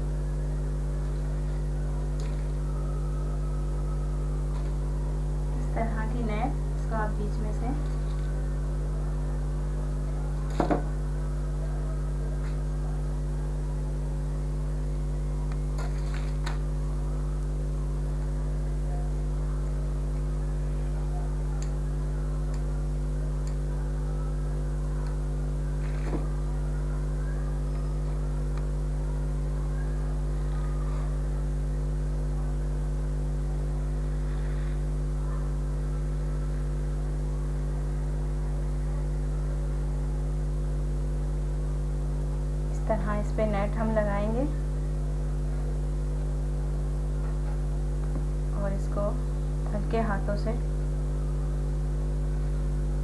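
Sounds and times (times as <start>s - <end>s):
steady electrical hum: 0.0s - 53.0s.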